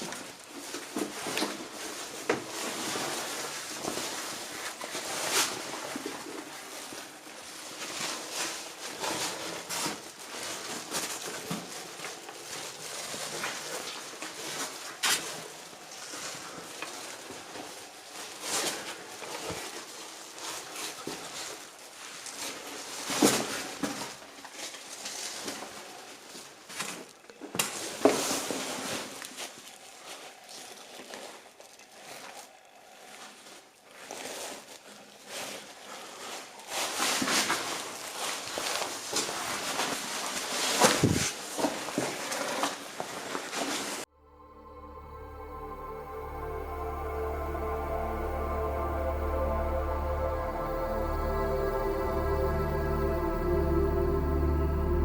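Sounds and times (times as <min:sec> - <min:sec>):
rustling and scraping: 0:00.0 - 0:44.1.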